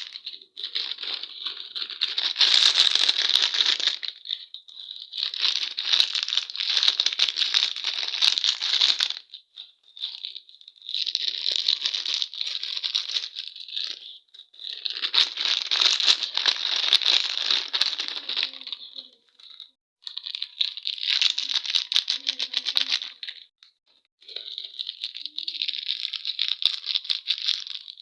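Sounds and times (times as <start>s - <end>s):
candy wrappers crinkling: 0.0s - 23.5s, 24.2s - 28.0s.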